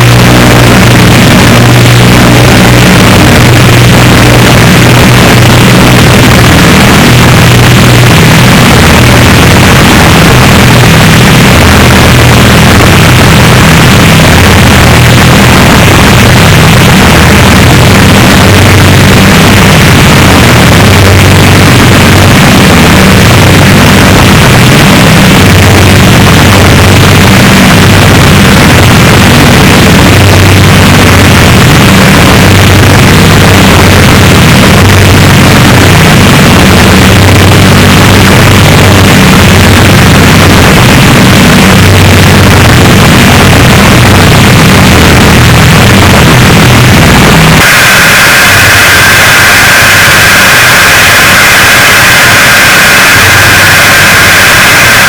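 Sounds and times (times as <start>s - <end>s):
loud distorted static: 0.0s - 55.0s
low droning hum: 0.0s - 55.0s.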